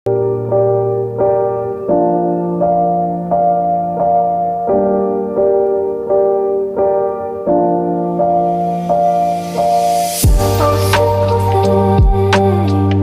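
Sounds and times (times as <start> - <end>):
piano melody over bass chords: 0.1 - 13.0.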